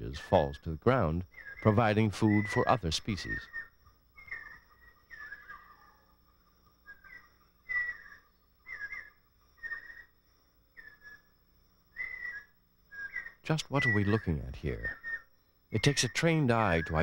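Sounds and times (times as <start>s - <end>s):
bird whistled calls: 1.3s - 6.0s, 6.8s - 10.2s, 10.8s - 17.0s.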